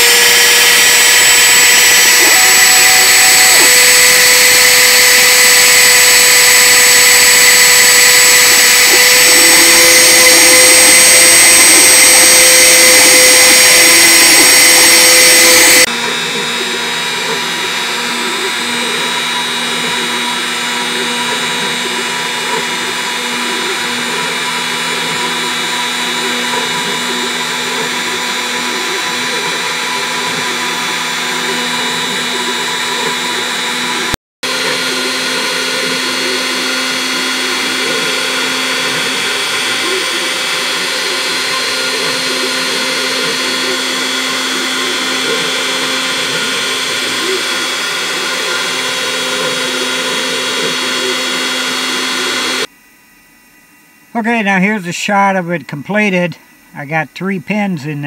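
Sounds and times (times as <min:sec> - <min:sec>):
router spindle cutting wood: 0:00.0 - 0:52.7.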